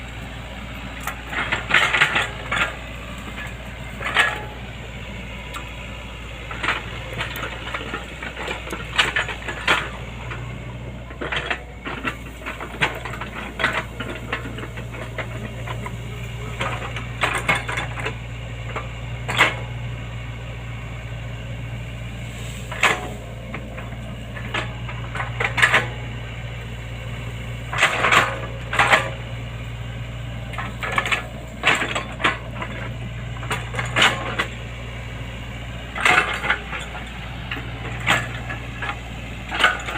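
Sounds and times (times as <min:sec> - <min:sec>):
excavator diesel engine hum: 0:00.0 - 0:39.9.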